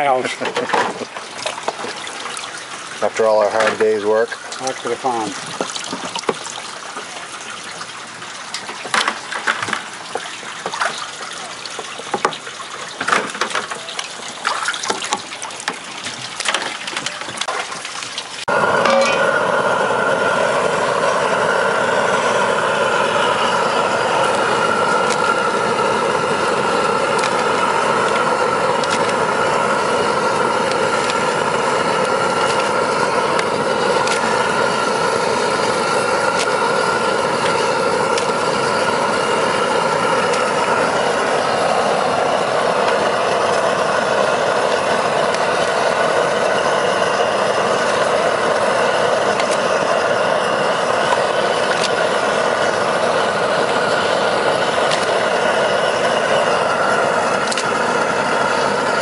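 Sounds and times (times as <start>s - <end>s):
propane burner roaring: 0.0s - 59.0s
water running from a hose: 0.0s - 59.0s.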